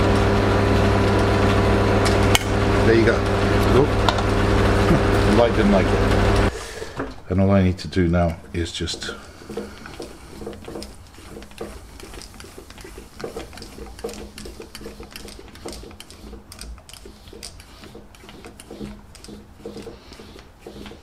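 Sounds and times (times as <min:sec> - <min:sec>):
lathe whirring: 0:00.0 - 0:07.0, 0:08.0 - 0:21.0.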